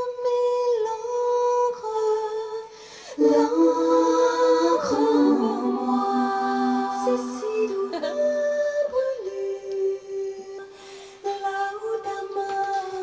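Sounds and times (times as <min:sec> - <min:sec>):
woman singing slow melody: 0:00.0 - 0:13.0.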